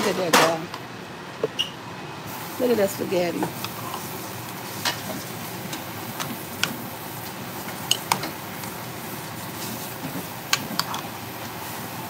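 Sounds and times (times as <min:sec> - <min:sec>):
steady hiss: 0:02.1 - 0:12.0.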